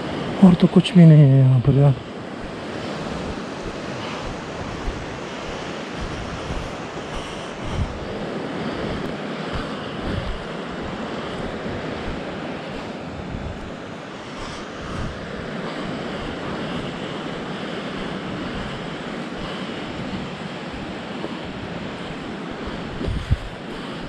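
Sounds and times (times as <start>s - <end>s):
river rushing over rapids: 0.0s - 24.0s
wind buffeting microphone: 0.0s - 24.0s.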